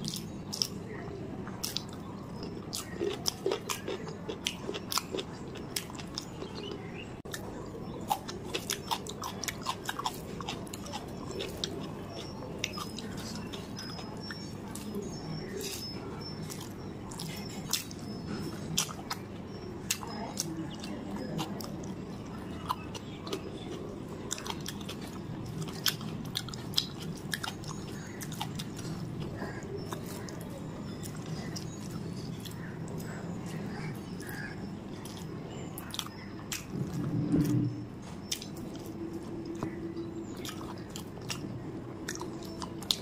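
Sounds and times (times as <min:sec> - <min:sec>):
close chewing of food: 0:00.0 - 0:43.0.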